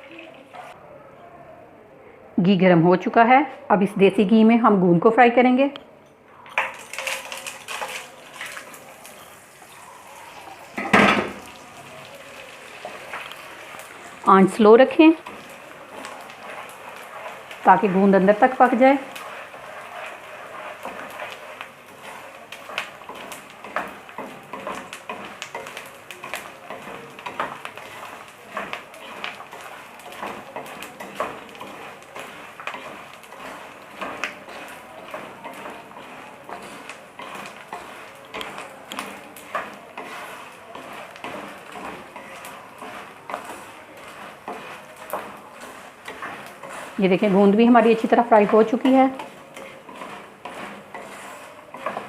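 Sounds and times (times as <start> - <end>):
gum frying in hot ghee: 6.3 - 52.0.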